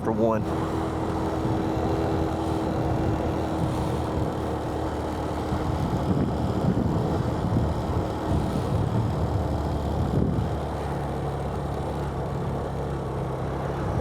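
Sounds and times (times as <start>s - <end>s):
rushing road noise: 0.0s - 14.0s
motorbike engine: 0.4s - 14.0s.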